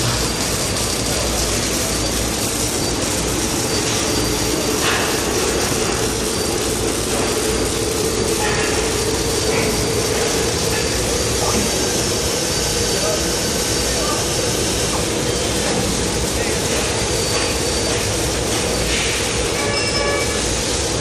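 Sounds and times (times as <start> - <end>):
mechanical running noise: 0.0 - 21.0.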